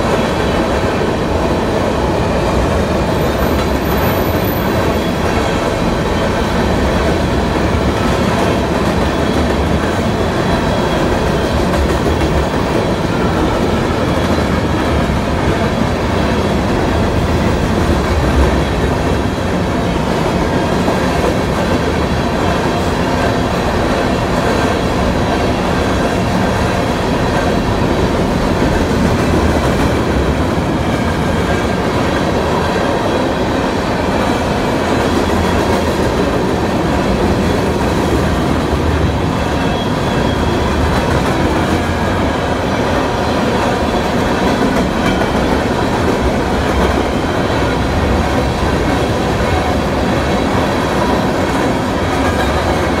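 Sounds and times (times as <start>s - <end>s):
train wheels rumbling on rail: 0.0s - 53.0s
clickety-clack of wheels: 2.4s - 53.0s.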